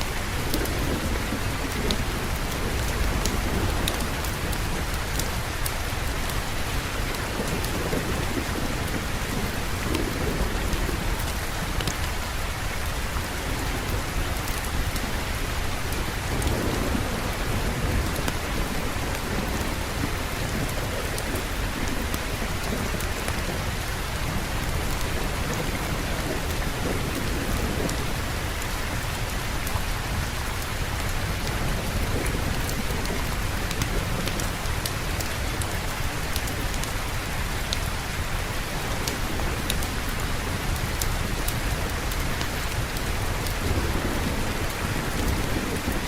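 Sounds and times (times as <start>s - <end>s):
heavy rain falling: 0.0s - 46.0s
low rumble of thunder: 0.0s - 46.0s.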